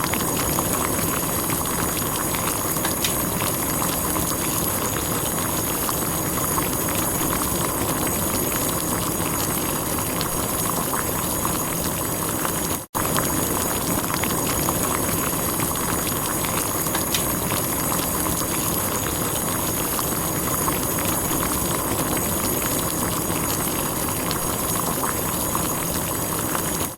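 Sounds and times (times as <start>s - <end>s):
water boiling: 0.0s - 26.9s.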